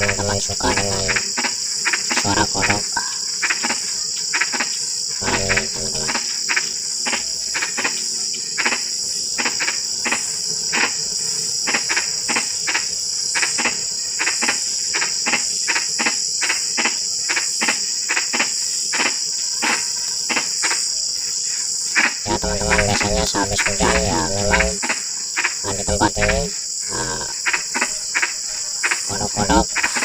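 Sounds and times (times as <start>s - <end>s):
frogs croaking: 0.0s - 30.0s
high-pitched insect trill: 0.0s - 30.0s.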